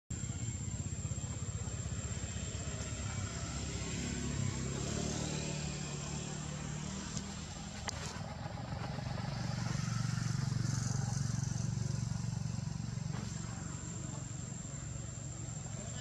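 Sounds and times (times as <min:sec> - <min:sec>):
engine hum: 0:00.1 - 0:16.0.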